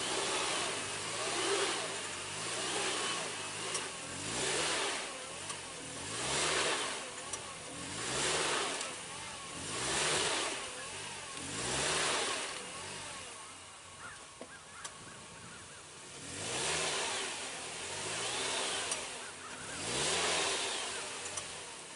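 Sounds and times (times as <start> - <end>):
vehicle engine revving: 0.0 - 21.9
wheels spinning: 0.0 - 21.9.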